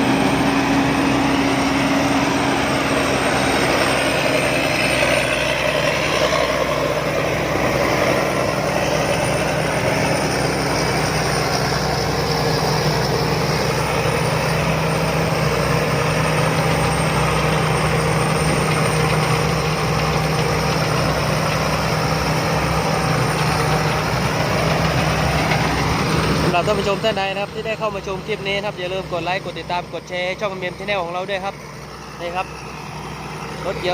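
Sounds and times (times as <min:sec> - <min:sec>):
combine harvester droning: 0:00.0 - 0:33.9.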